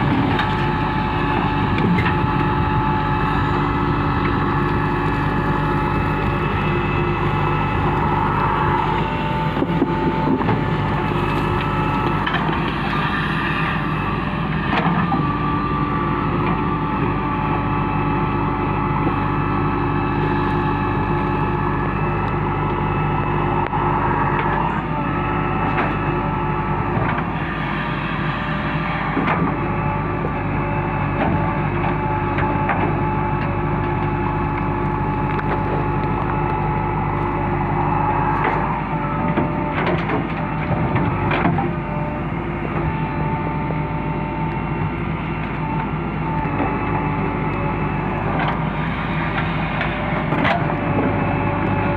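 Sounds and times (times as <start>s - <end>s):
backhoe diesel engine running: 0.0s - 51.9s.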